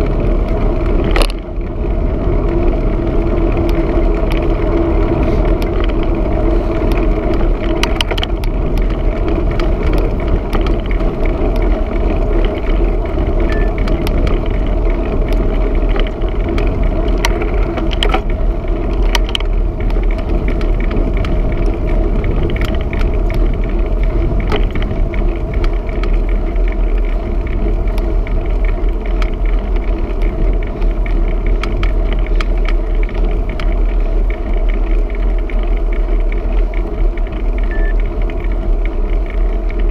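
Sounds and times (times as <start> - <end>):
bicycle road rumble: 0.0 - 39.9
small clicks and rattles: 0.0 - 39.9.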